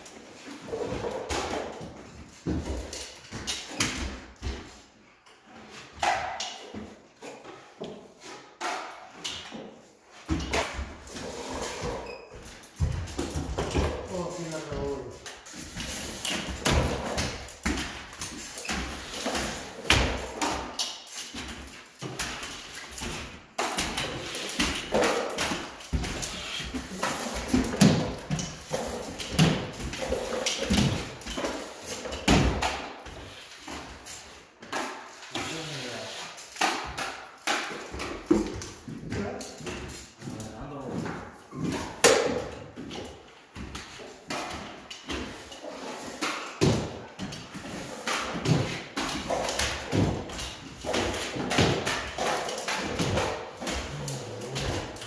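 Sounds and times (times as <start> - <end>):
metal stilts on concrete floor: 0.1 - 55.0.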